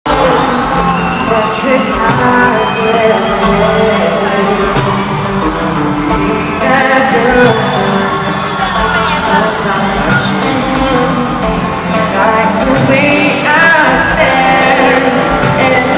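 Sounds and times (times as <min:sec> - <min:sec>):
live pop band playing: 0:00.0 - 0:15.9
person singing: 0:00.1 - 0:15.9.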